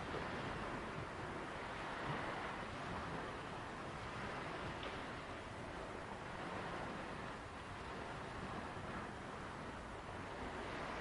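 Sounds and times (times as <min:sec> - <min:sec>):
ocean waves on a beach: 0:00.0 - 0:11.0.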